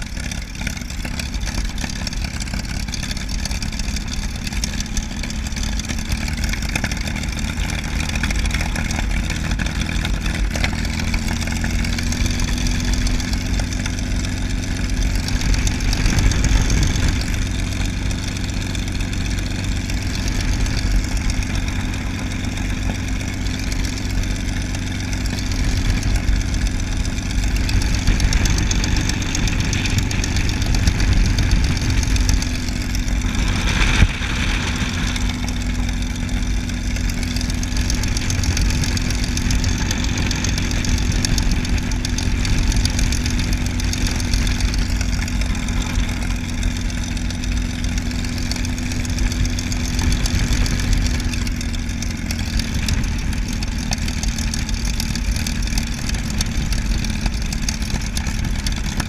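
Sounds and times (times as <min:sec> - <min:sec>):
propeller aircraft engine drone: 0:00.0 - 0:59.0.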